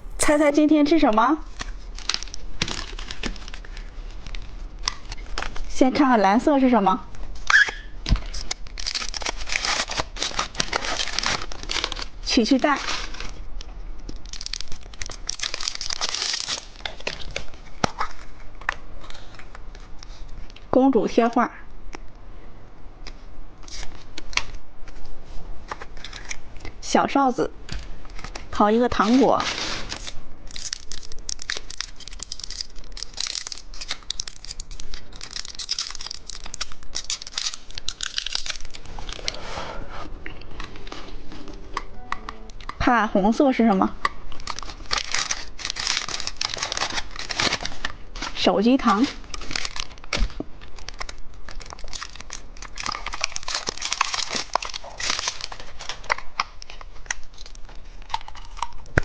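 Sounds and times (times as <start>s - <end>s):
plastic packaging crinkling and tearing: 1.5s - 5.7s, 7.1s - 20.7s, 23.0s - 26.8s, 27.8s - 41.6s, 43.5s - 59.0s.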